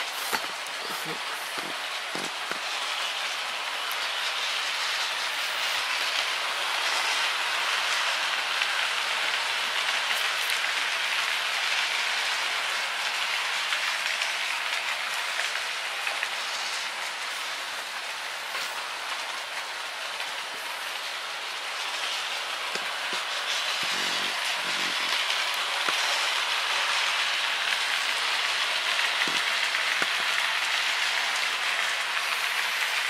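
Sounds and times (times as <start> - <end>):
model train rumbling on rails: 0.0 - 33.0.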